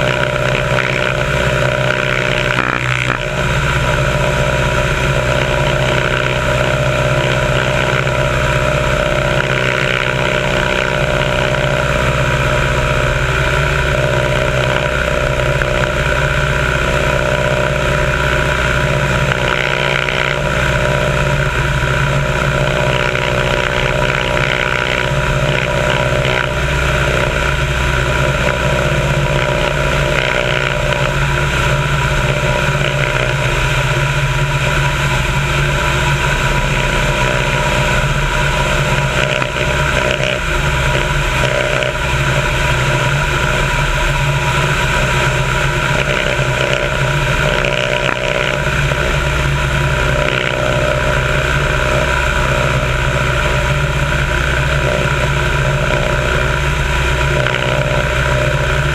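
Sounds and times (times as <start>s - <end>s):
plane engine droning: 0.0s - 58.9s.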